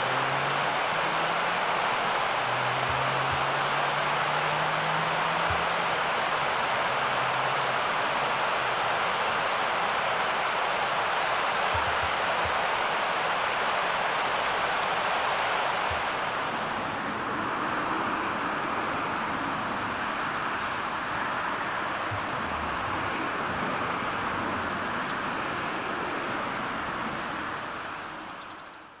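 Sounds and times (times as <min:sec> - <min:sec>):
stream flowing over rocks: 0:00.0 - 0:29.0.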